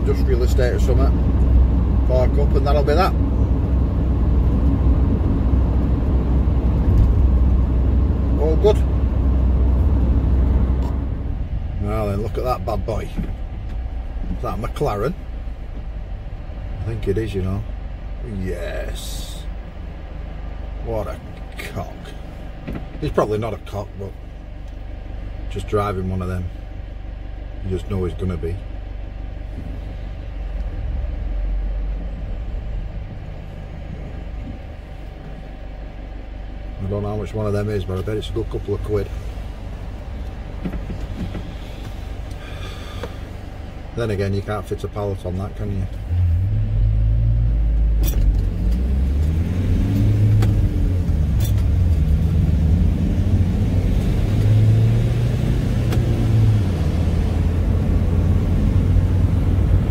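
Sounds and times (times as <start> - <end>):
traffic engine rumble: 0.0 - 59.9.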